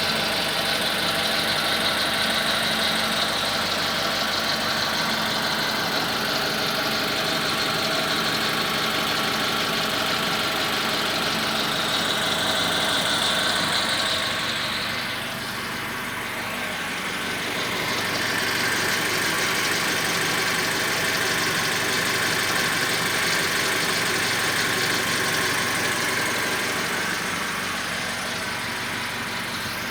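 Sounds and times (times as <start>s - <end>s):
car engine idling roughly: 0.0s - 29.9s.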